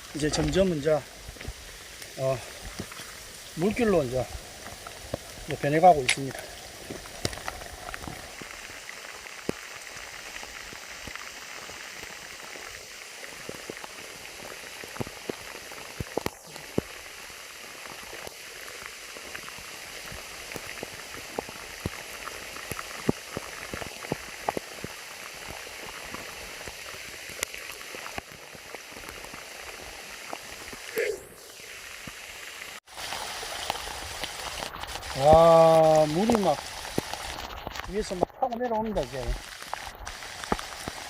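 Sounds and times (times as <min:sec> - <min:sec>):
heavy rain falling: 0:00.0 - 0:41.0
sharp raindrop impacts: 0:00.0 - 0:41.0.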